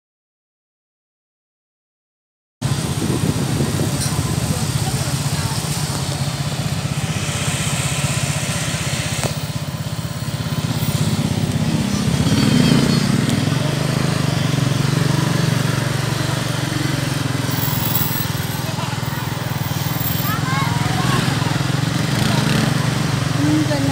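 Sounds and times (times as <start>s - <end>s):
motorcycle passing: 2.6s - 23.9s
vehicle engines running: 2.6s - 23.9s.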